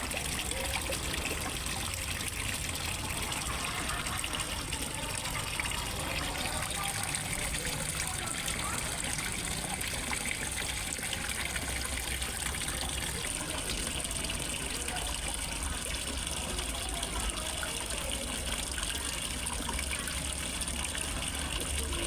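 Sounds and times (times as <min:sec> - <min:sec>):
small waterfall splashing into pond: 0:00.0 - 0:22.0.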